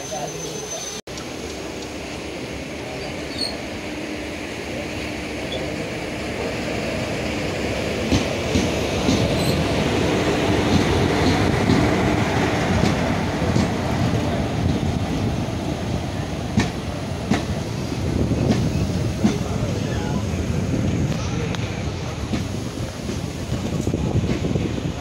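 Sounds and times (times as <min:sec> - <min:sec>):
train passing rumble: 0:00.0 - 0:25.0.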